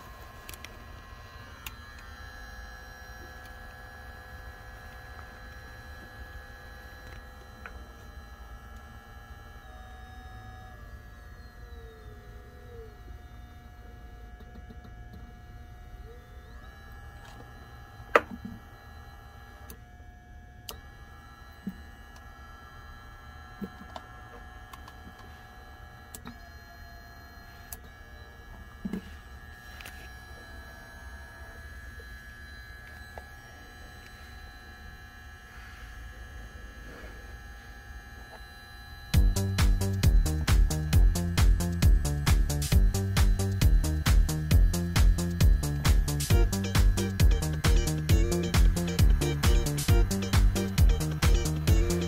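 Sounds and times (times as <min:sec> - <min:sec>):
small gear motor humming and whining: 0:00.0 - 0:52.0.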